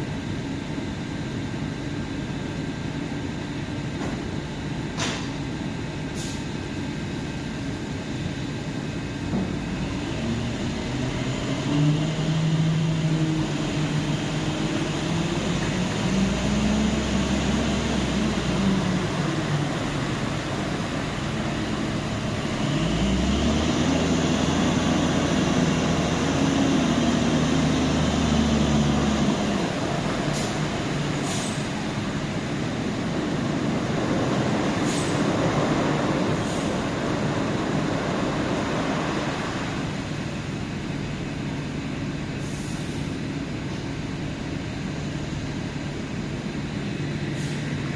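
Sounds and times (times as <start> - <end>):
industrial machinery hum: 0.0 - 47.9.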